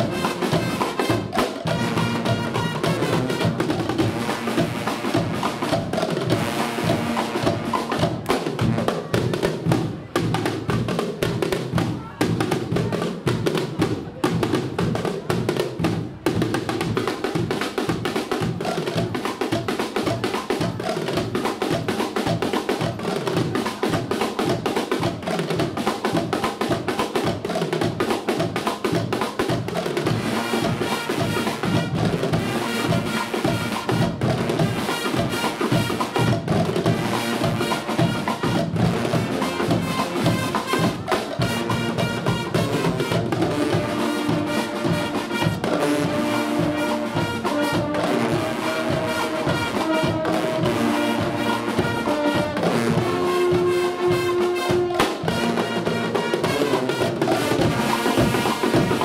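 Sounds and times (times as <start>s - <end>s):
brass band playing: 0.0s - 59.0s
drums keeping a beat: 0.0s - 59.0s.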